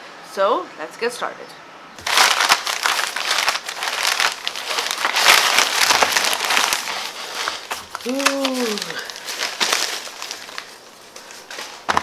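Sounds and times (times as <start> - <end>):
plastic bag crinkling: 2.0 - 12.0.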